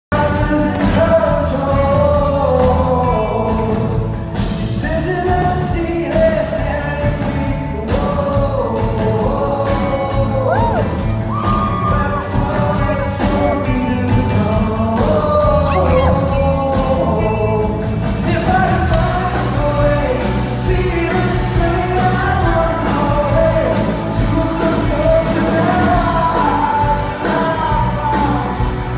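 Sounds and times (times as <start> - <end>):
band accompaniment: 0.1 - 28.9
drums keeping steady beat: 0.1 - 28.9
person singing: 0.1 - 28.9.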